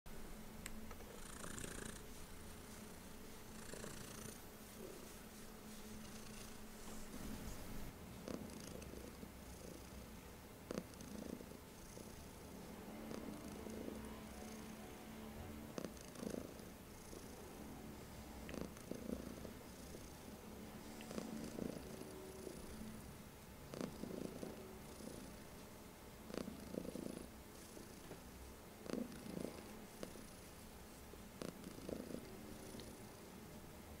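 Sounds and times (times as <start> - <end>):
cat purring: 1.0 - 25.6, 26.2 - 33.4.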